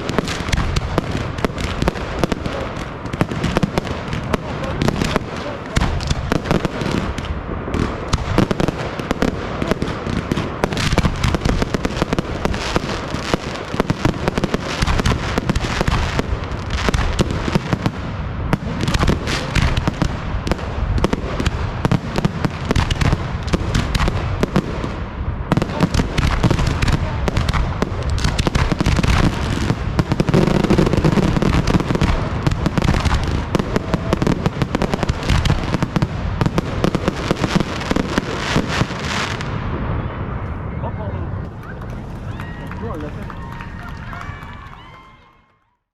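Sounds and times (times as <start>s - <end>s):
fireworks bangs and crackles: 0.0s - 45.2s.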